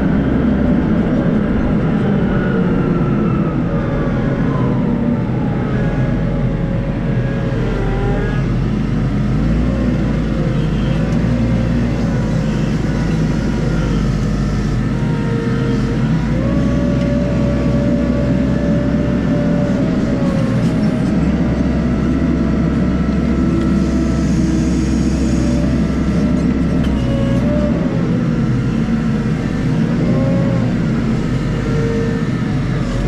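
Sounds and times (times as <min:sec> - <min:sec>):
diesel engine running: 0:00.0 - 0:33.0
engine whine: 0:00.0 - 0:33.0.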